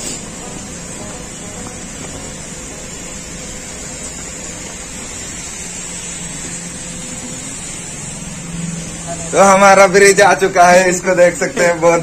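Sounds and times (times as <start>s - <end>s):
industrial machinery noise: 0.0s - 12.0s.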